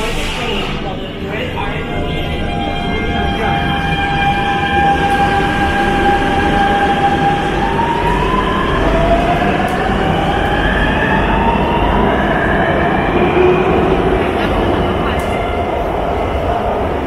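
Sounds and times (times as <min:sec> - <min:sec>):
electric train rumble and motor whine: 0:00.0 - 0:17.0.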